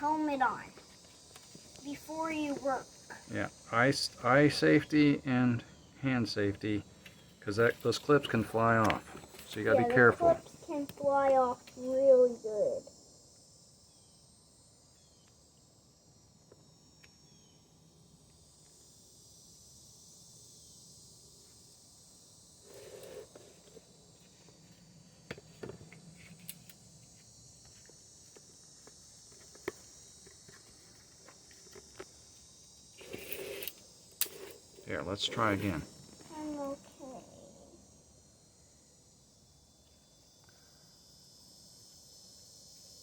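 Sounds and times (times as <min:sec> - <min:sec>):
crickets chirring: 0:00.0 - 0:43.0.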